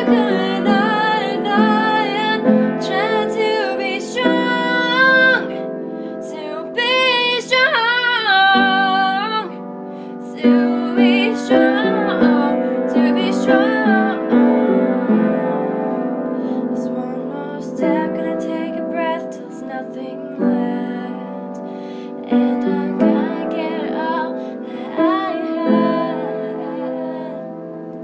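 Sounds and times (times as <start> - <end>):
woman singing: 0.0 - 27.6
upright piano: 0.0 - 28.0.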